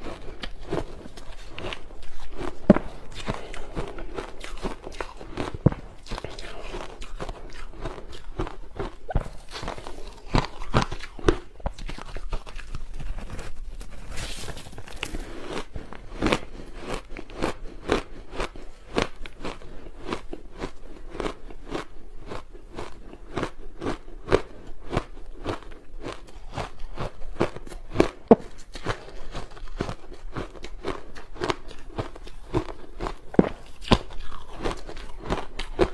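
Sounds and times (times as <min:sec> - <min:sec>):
person crunching ice: 0:00.0 - 0:35.9.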